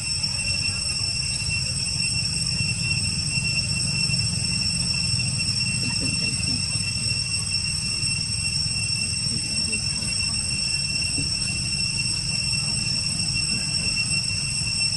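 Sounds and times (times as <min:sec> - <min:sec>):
constant low rumble: 0:00.0 - 0:14.9
high-pitched insect drone: 0:00.0 - 0:14.9.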